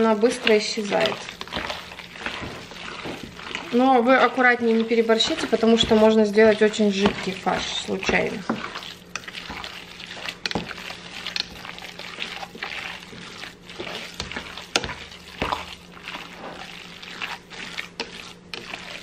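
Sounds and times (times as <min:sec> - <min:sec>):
hands squelching wet mince: 0:00.0 - 0:19.0.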